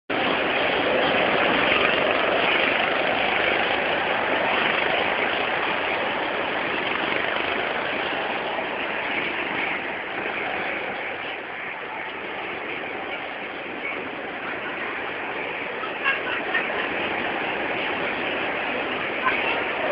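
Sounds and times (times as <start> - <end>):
go-kart engines droning: 0.1 - 19.9.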